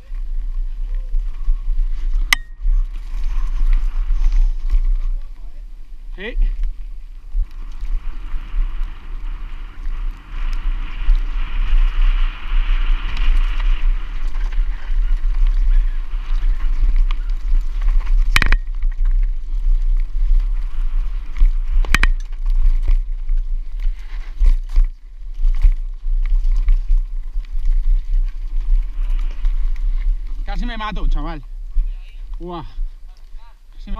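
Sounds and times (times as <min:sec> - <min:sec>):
bike tyres rattling over ground: 0:00.0 - 0:33.9
wind rushing over microphone: 0:00.0 - 0:33.9.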